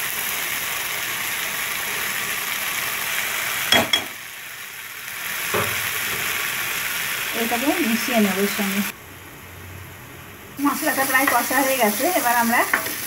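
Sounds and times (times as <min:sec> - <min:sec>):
food sizzling in oil: 0:00.0 - 0:09.0, 0:10.6 - 0:13.0.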